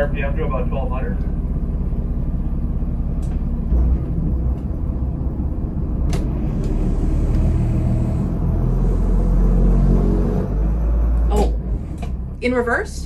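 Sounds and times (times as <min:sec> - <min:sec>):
boat diesel engine rumbling: 0:00.0 - 0:13.0.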